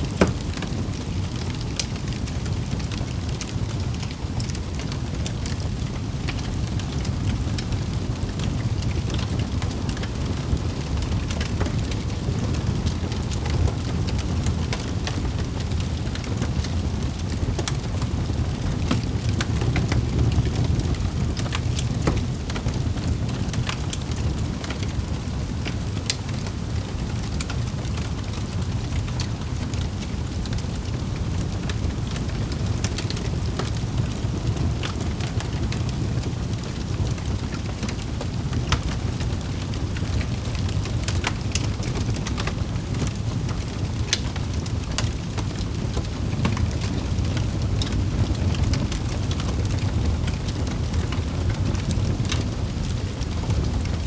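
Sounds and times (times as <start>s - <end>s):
fire crackling and popping: 0.0s - 54.0s
low rumble of burning fire: 0.0s - 54.0s.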